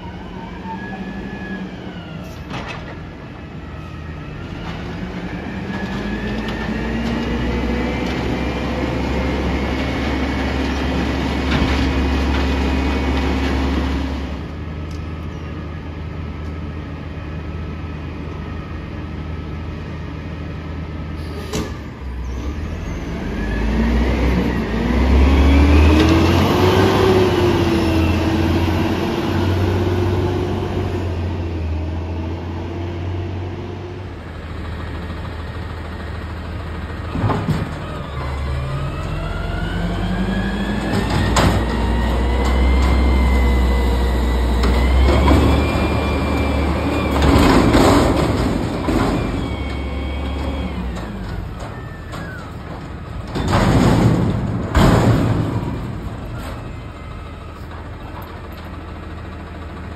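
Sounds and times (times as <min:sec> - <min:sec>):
diesel truck engine revving: 0:03.0 - 0:15.0, 0:16.9 - 0:59.9.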